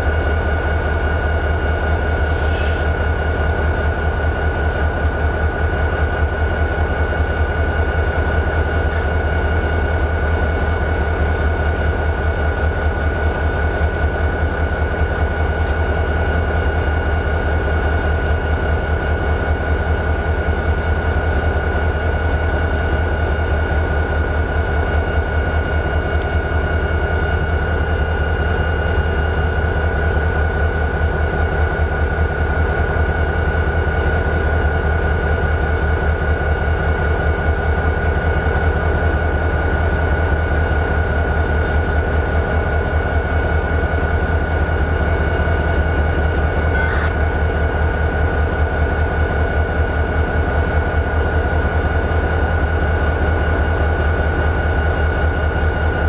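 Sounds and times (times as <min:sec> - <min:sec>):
diesel locomotive idling: 0:00.0 - 0:56.0
steady high whine: 0:00.0 - 0:56.0.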